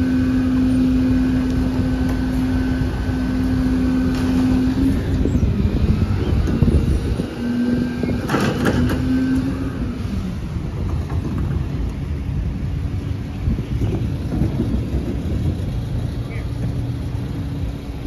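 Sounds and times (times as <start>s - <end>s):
diesel truck engine running: 0.0s - 18.0s
passing road traffic: 0.0s - 18.0s.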